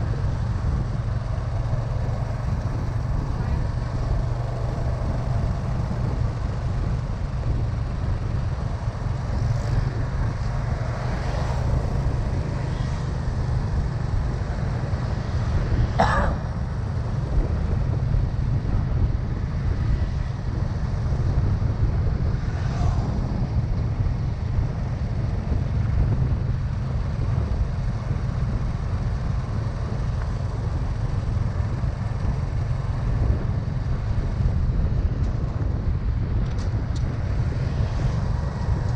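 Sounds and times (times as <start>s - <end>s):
motorbike engine and road rumble: 0.0s - 38.9s
passing traffic: 0.0s - 38.9s
wind buffeting microphone: 0.0s - 38.9s.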